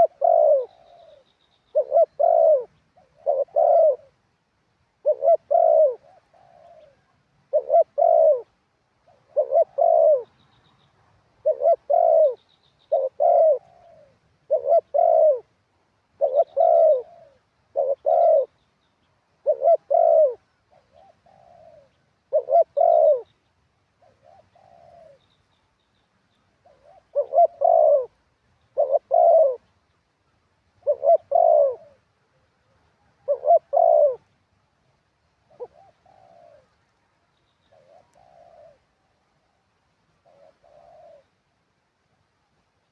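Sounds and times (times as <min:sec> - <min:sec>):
dove cooing: 0:00.0 - 0:04.2, 0:04.9 - 0:10.8, 0:11.4 - 0:18.6, 0:19.3 - 0:25.4, 0:26.5 - 0:29.7, 0:30.7 - 0:34.4, 0:35.4 - 0:36.9, 0:37.6 - 0:41.4.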